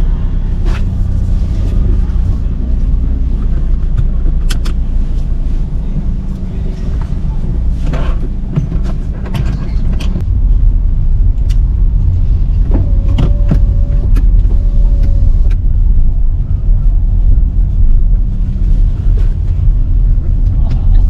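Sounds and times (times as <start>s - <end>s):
wind buffeting microphone: 0.4s - 21.0s.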